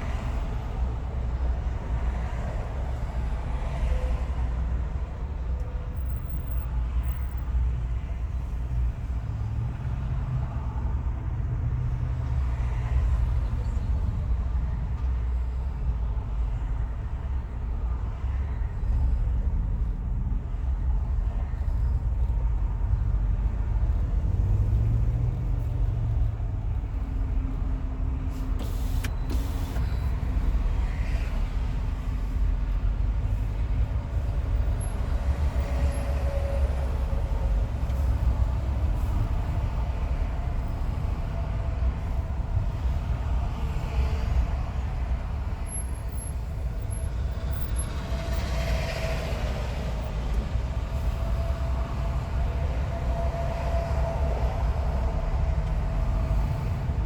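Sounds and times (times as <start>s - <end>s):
tyre and road noise rumble: 0.0s - 57.0s.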